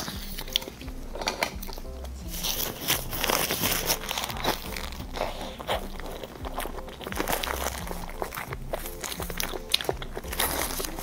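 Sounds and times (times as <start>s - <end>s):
eating sounds: 0.0s - 11.0s
foil crinkling: 0.0s - 11.0s
soft background music: 0.0s - 11.0s.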